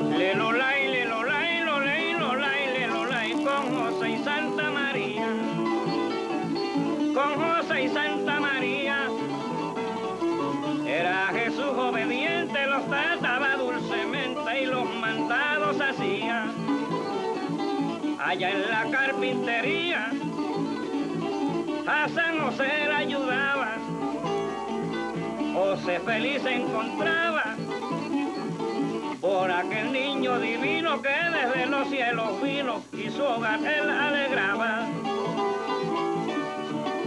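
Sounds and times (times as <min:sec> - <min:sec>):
acoustic folk guitar music: 0:00.0 - 0:37.0.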